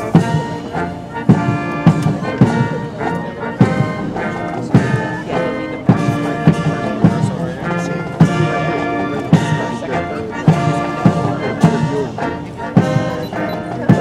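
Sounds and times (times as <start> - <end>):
brass band playing a march: 0.0 - 14.0.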